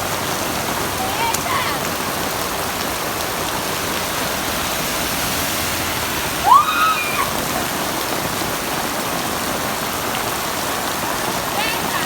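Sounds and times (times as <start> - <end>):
heavy rain pouring: 0.0 - 12.0
running water rushing: 0.0 - 12.0.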